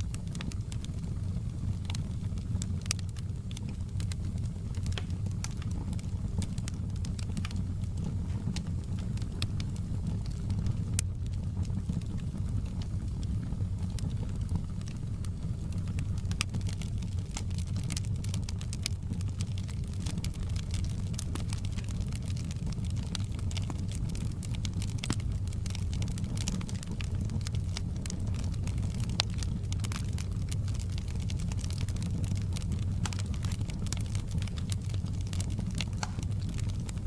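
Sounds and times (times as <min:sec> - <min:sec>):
fire crackling and popping: 0:00.0 - 0:37.0
low fire rumble: 0:00.0 - 0:37.0.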